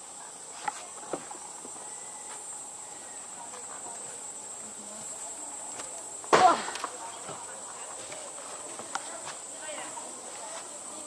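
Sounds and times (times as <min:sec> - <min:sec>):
rainforest insects droning: 0:00.0 - 0:11.0.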